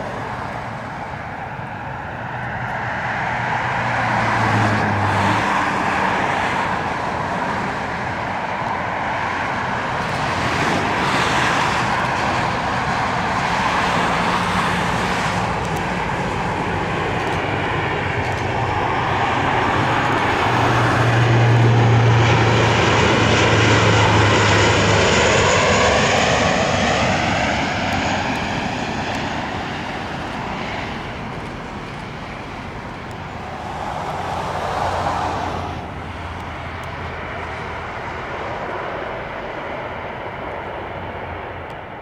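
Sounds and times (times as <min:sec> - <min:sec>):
airplane engine flying past: 0:00.0 - 0:42.0.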